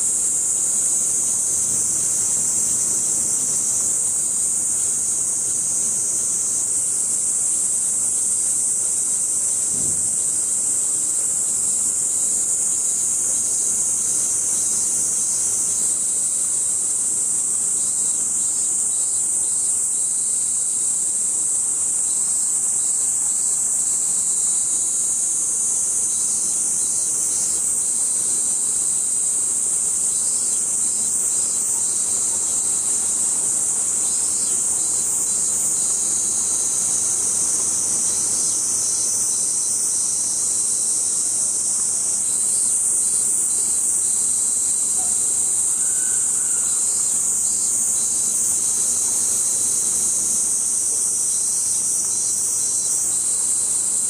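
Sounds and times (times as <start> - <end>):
cicada chorus drone: 0.0 - 54.0
pulsing insect calls: 0.0 - 54.0.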